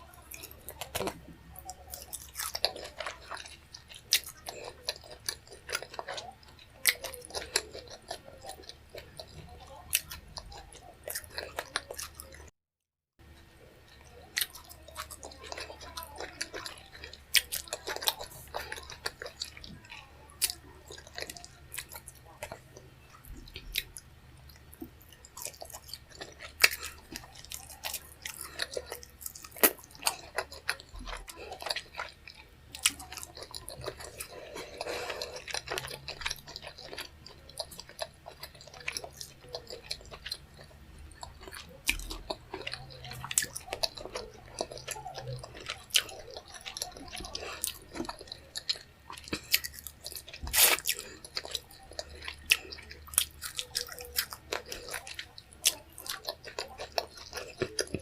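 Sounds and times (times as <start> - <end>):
person chewing food: 0.0 - 12.6, 13.2 - 58.0.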